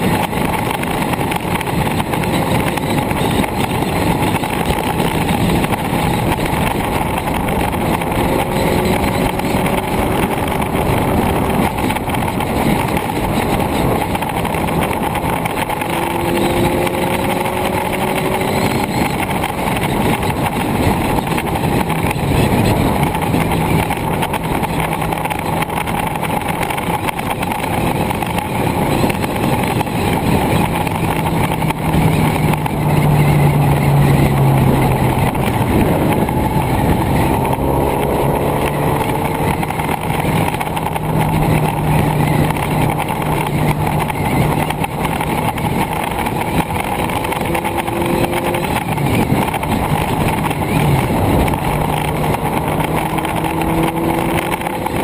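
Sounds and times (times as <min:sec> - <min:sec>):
engine drone: 0:00.0 - 0:55.0
wind rushing over camera: 0:00.0 - 0:55.0.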